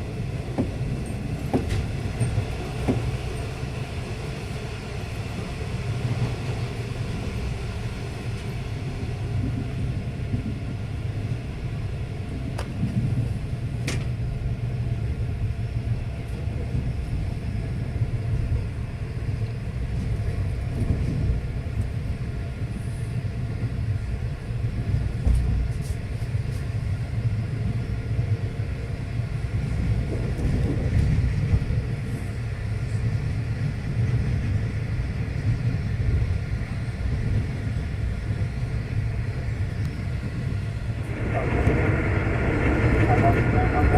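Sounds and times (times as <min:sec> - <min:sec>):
passenger train rumbling on track: 0:00.0 - 0:43.9.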